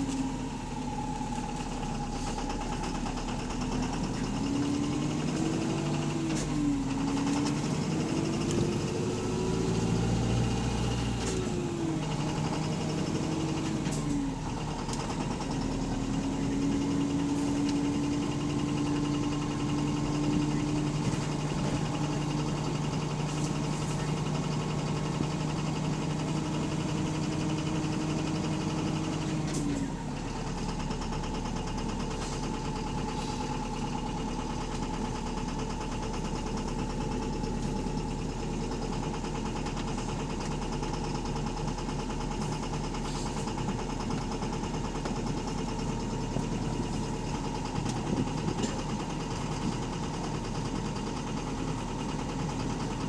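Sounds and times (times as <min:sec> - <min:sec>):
bus engine knocking: 0:00.0 - 0:53.0.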